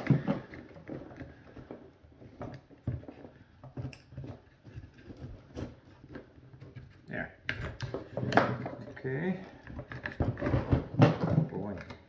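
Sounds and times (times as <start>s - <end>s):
plastic parts clicking and knocking: 0.0s - 12.0s.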